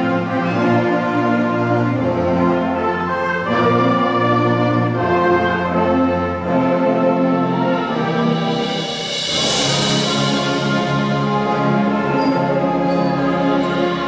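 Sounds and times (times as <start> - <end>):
concert band playing sustained chords: 0.0 - 14.0
low brass holding notes: 0.0 - 14.0.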